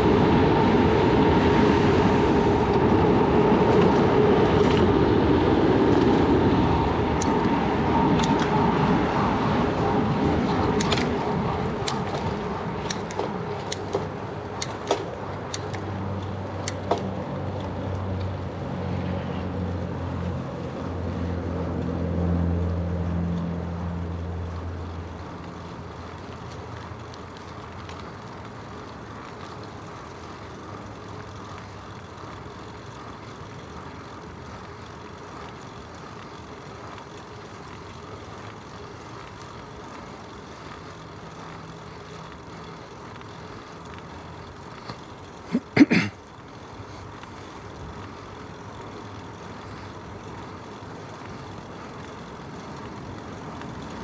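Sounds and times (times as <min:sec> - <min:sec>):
bicycle road noise: 0:00.0 - 0:54.0.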